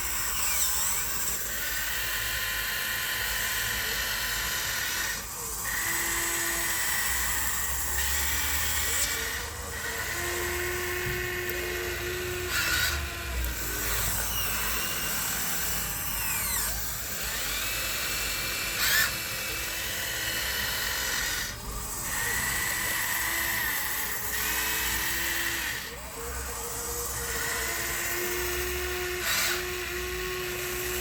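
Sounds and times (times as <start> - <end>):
electric motors whining: 0.0 - 31.0.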